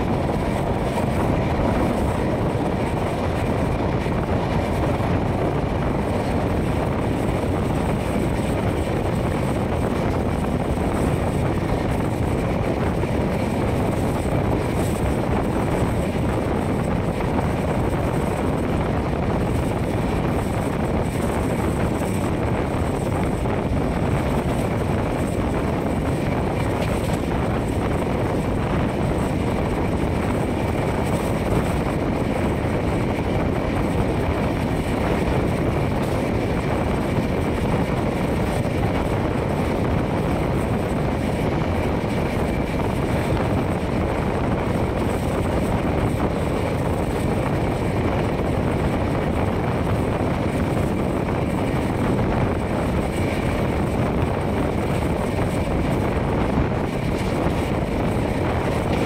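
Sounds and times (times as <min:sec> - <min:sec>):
train wheels rumbling on rails: 0:00.0 - 0:59.0
wind rushing over microphone: 0:00.0 - 0:59.0.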